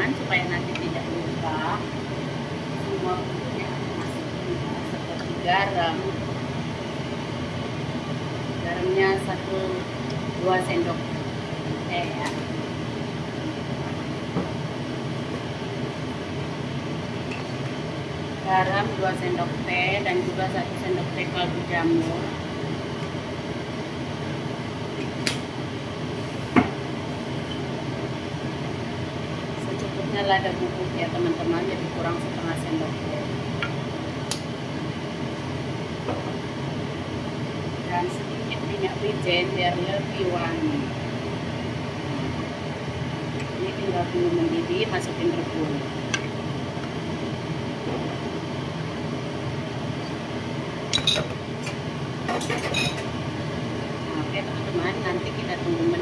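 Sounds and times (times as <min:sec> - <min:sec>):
fan hum: 0:00.0 - 0:56.0.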